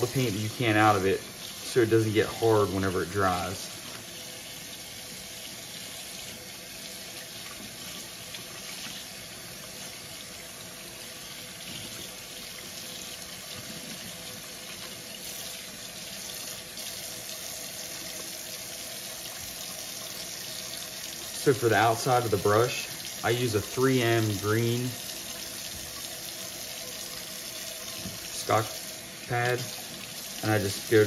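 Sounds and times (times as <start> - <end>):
tap water running into sink: 0.0 - 31.0.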